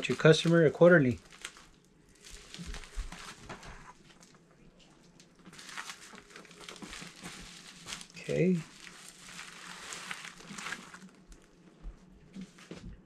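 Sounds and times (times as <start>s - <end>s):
packaging rustling and crinkling: 0.0s - 4.4s, 5.1s - 11.6s.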